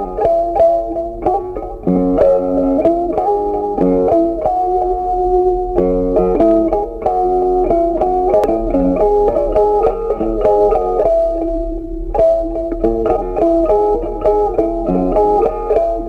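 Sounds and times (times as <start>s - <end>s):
bass notes: 0.0s - 16.0s
plucked guitar melody: 0.0s - 16.0s.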